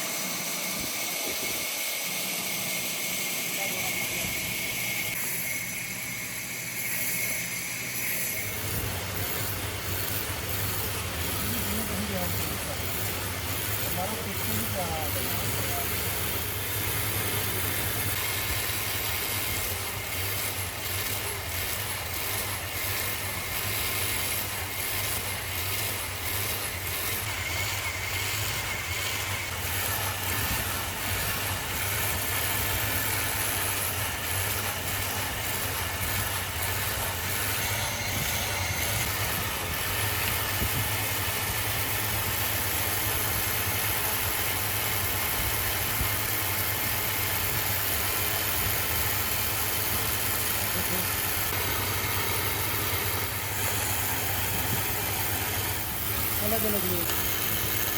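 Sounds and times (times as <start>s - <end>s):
low motor hum: 7.9s - 57.9s.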